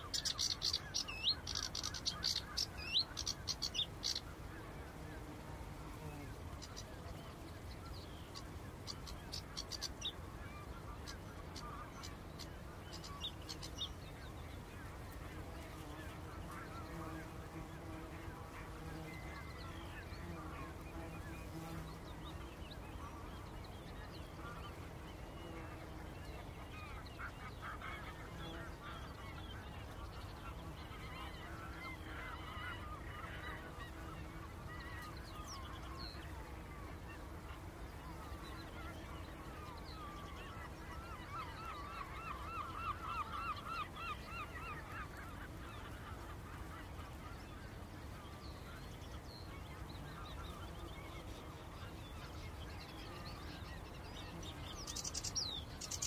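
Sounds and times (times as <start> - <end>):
birds calling: 0.0 - 5.4, 6.1 - 56.0
low steady background: 0.0 - 56.0.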